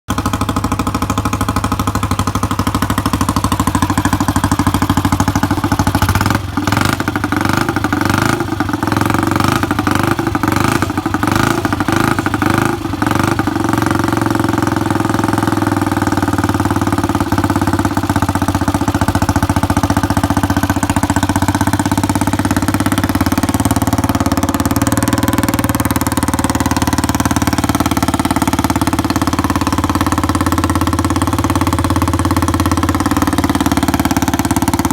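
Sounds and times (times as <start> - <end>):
engine backfire cracks: 0.1 - 34.9
motorcycle engine running unevenly: 0.1 - 34.9.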